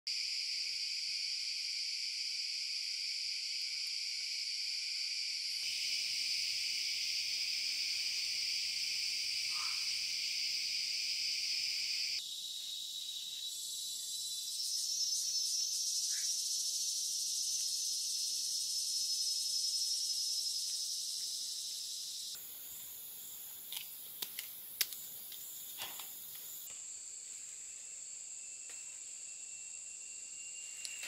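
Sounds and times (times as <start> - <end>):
chorus of forest insects: 0.1 - 31.0.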